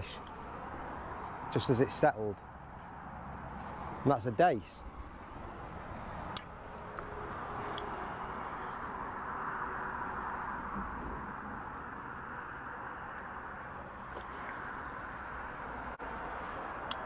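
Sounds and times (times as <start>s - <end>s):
road traffic rushing hiss: 0.0s - 17.0s.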